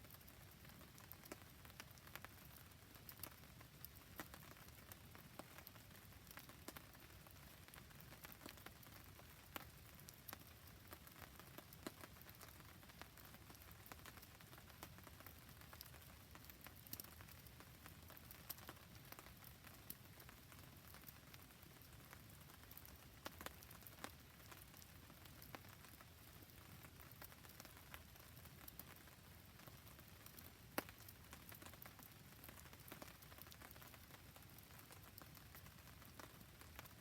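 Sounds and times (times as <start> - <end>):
faint steady rain: 0.0 - 37.0
small campfire burning: 0.0 - 37.0.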